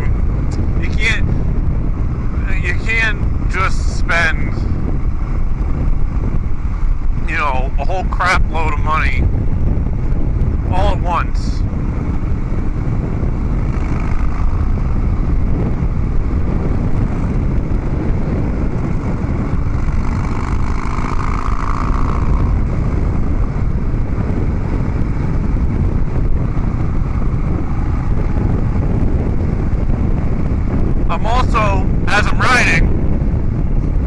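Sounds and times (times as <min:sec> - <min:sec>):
motorcycle engine riding: 0:00.0 - 0:34.0
wind noise on microphone: 0:00.0 - 0:34.0.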